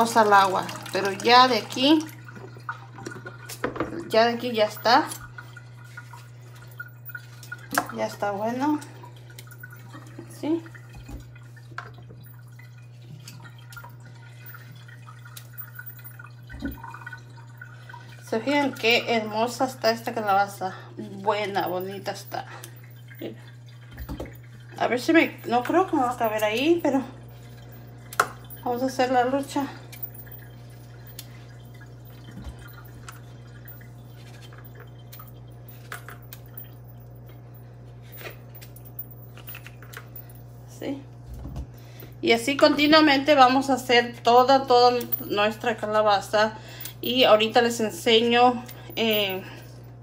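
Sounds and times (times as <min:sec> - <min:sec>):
water dripping in sink: 0:00.0 - 0:40.5, 0:41.1 - 0:50.0
low hum: 0:00.8 - 0:50.0.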